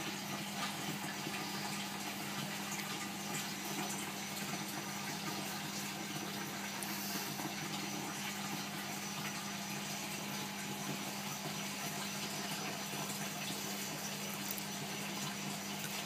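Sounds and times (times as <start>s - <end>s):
aquarium bubbling: 0.0s - 16.0s
pump hum: 0.0s - 16.0s.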